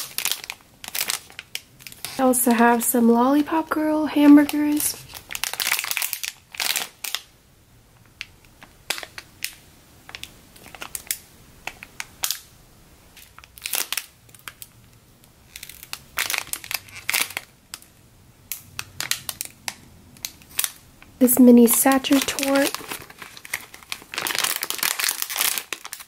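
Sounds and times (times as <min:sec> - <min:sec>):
plastic bags crinkling: 0:00.0 - 0:07.3, 0:08.2 - 0:12.5, 0:13.2 - 0:14.8, 0:15.4 - 0:26.0.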